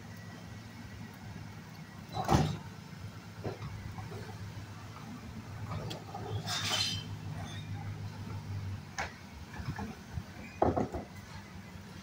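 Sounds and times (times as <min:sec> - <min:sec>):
garbage truck engine hum: 0:00.0 - 0:12.0.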